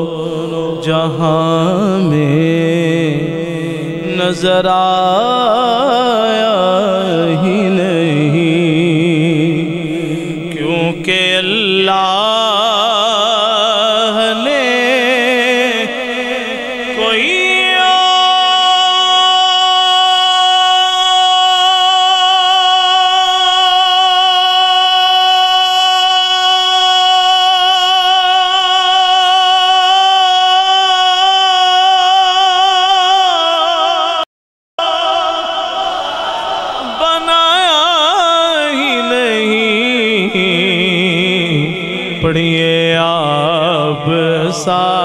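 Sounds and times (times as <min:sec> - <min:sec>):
man reciting in song: 0:00.0 - 0:45.0.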